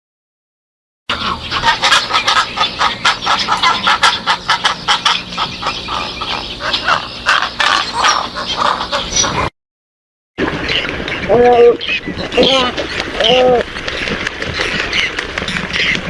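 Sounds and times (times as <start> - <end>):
flock of birds calling: 1.1 - 9.5, 10.4 - 16.0.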